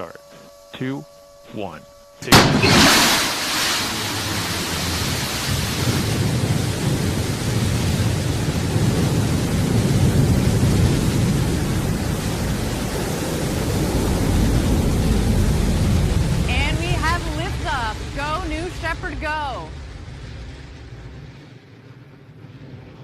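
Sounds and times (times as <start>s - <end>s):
rocket engine roaring: 1.6s - 23.0s.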